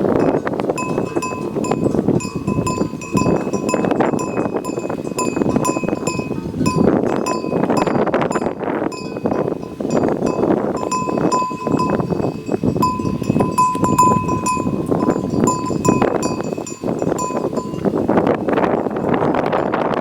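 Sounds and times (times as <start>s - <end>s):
animal bells clinking: 0.0s - 20.0s
dense steady rustling: 0.0s - 20.0s.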